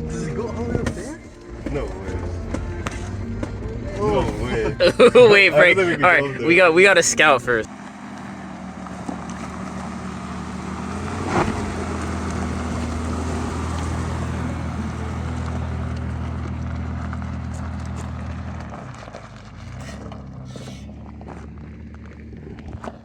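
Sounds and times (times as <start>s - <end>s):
engine running at low speed: 0.0s - 23.0s.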